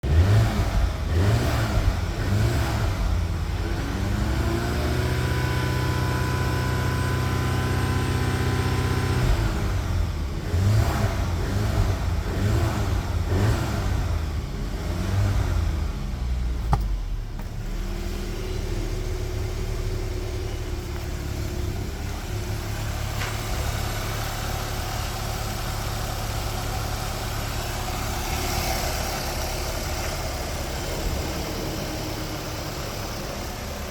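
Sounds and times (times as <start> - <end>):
engine revving and idling: 0.0 - 33.9.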